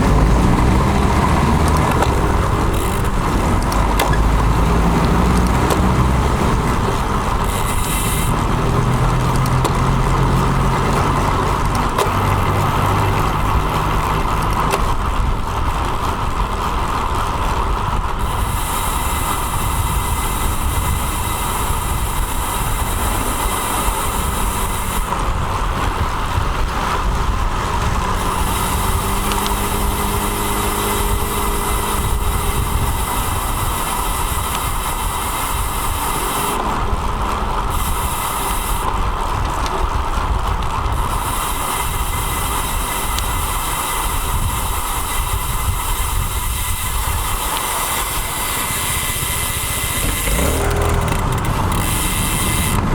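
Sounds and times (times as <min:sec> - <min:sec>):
road noise rushing: 0:00.0 - 0:52.9
vehicle engine humming: 0:00.0 - 0:52.9
vehicles passing: 0:00.0 - 0:52.9.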